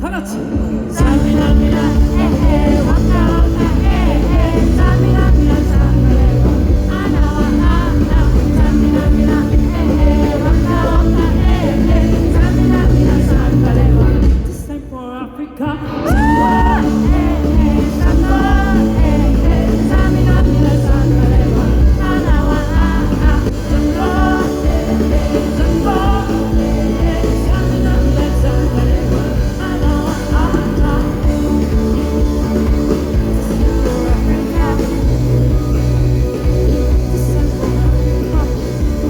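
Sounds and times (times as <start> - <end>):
live band music: 0.0 - 14.7, 15.8 - 39.0
voices singing: 0.0 - 39.0.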